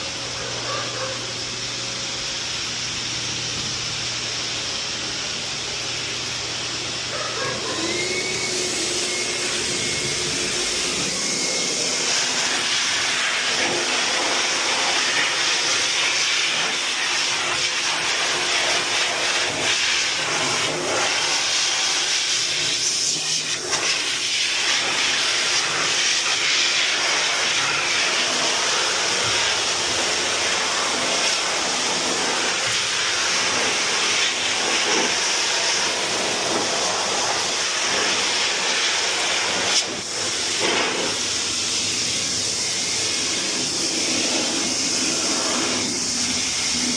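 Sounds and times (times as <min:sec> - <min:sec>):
dryer blowing air: 0:00.0 - 0:46.9.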